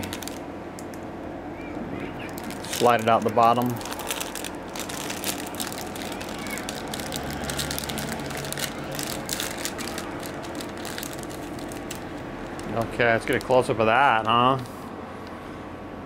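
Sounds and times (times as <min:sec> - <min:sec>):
plastic wrapper crinkling: 0:00.0 - 0:01.0, 0:02.2 - 0:14.8
steady hum: 0:00.0 - 0:16.0.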